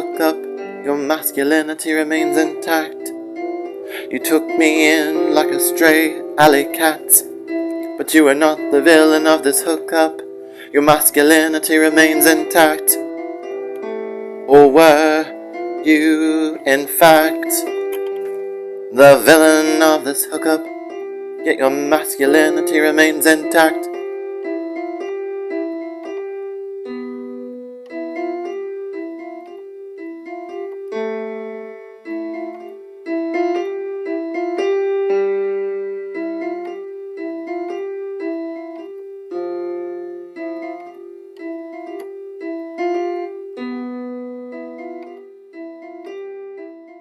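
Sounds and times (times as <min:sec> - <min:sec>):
slow gentle solo piano: 0:00.0 - 0:47.0.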